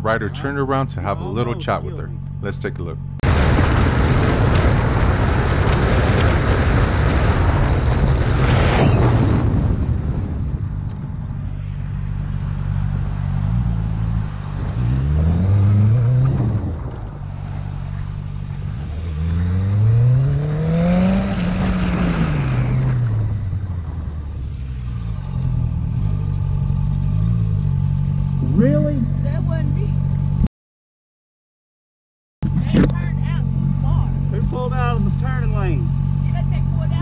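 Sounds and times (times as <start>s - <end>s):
motorcycle engine revving: 0.0s - 3.3s, 4.0s - 30.5s, 32.4s - 37.0s.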